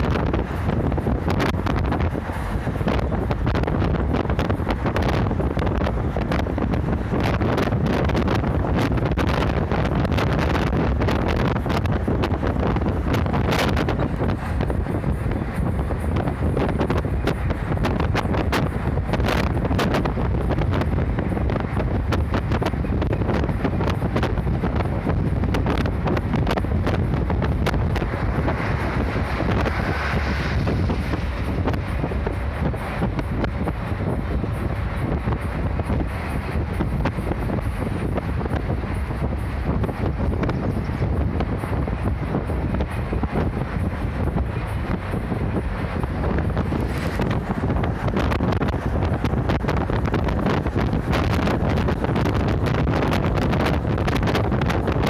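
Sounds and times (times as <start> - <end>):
bus engine and road noise: 0.0 - 55.0
wind buffeting microphone: 0.0 - 55.0.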